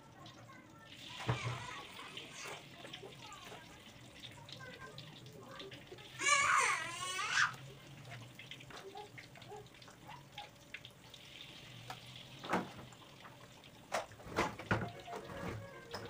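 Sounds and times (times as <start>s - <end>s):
food sizzling in hot oil: 0.8s - 8.6s, 10.2s - 16.0s.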